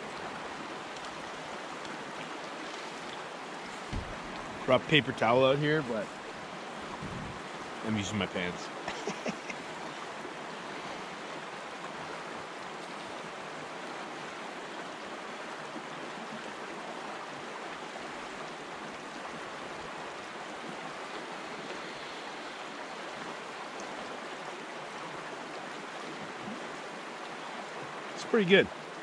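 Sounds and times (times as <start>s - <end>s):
river water running: 0.0s - 29.0s.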